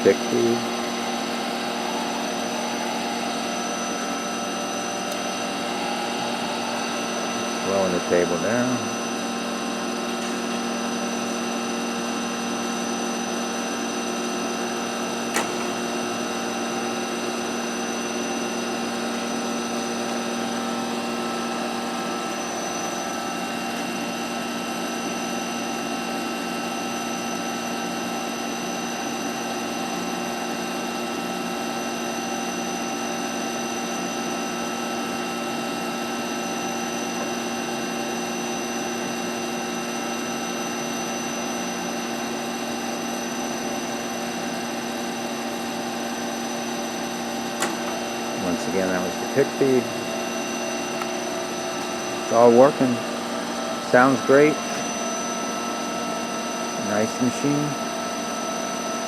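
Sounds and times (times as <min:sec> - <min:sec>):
grinding machine humming: 0:00.0 - 0:59.0.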